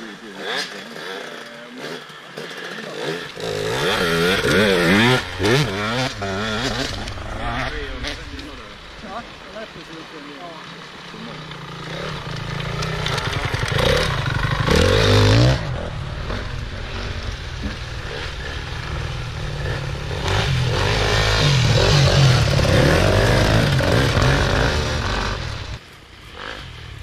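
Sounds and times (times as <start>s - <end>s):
motorcycle engines revving past: 0.0s - 27.0s.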